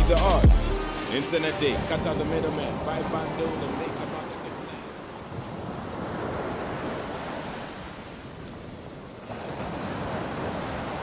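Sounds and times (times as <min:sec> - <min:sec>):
ocean surf washing: 0:00.7 - 0:11.0.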